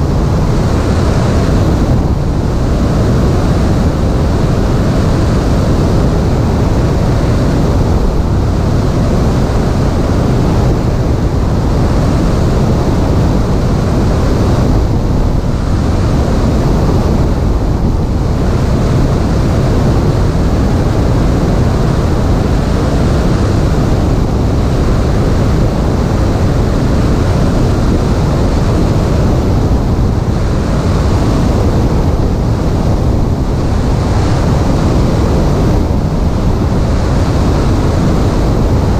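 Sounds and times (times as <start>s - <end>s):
light aircraft engine and propeller: 0.0s - 38.9s
wind buffeting microphone: 0.0s - 38.9s.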